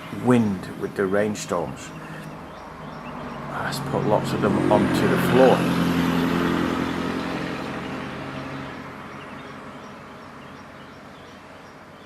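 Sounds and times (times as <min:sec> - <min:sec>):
passing vehicle engine drone: 0:00.0 - 0:11.0.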